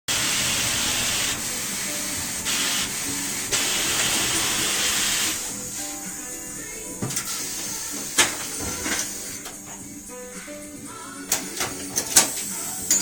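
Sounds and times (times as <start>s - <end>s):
compressed air hissing: 0.1s - 13.0s.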